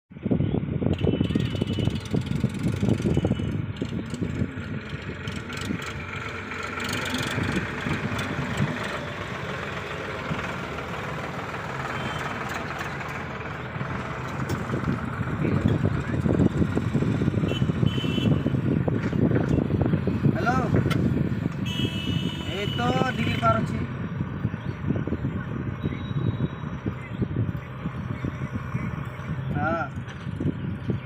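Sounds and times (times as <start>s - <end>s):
heavy diesel engine running: 0.9s - 31.0s.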